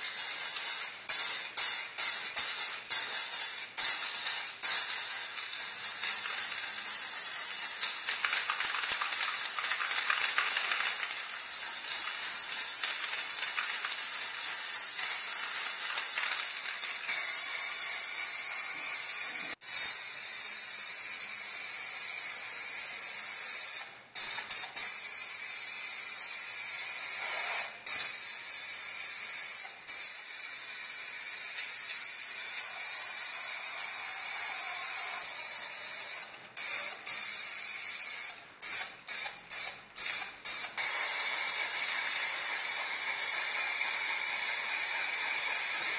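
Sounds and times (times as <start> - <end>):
spray paint hissing: 0.0 - 45.9.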